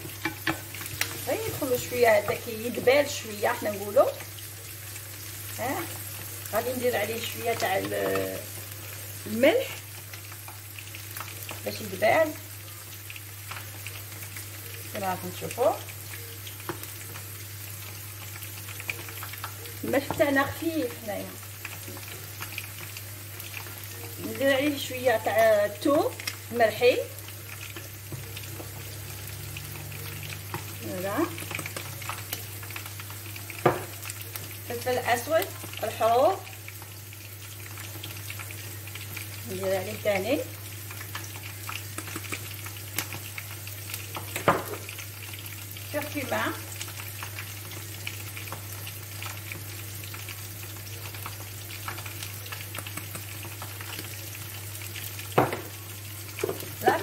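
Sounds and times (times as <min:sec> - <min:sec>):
onions sizzling in oil: 0:00.0 - 0:57.0.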